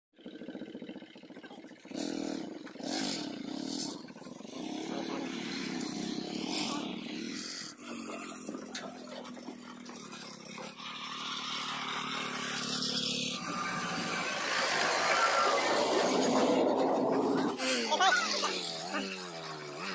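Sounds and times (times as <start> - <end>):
vehicle engine revving: 0.2 - 19.9.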